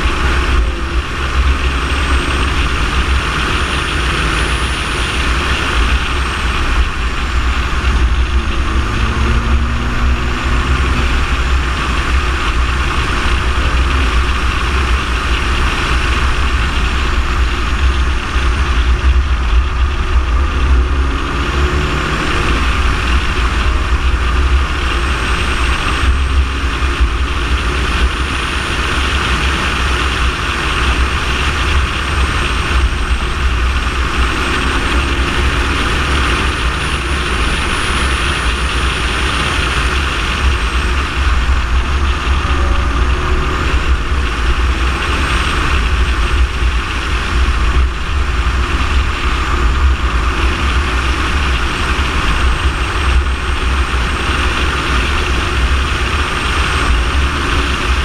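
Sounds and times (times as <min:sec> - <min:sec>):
faint car engine: 0:00.0 - 0:58.0
wind rumble on microphone: 0:00.0 - 0:58.0.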